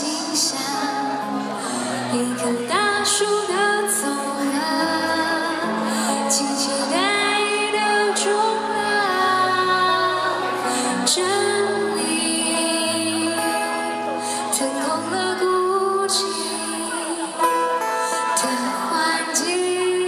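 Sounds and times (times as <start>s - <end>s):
woman singing: 0.0s - 20.0s.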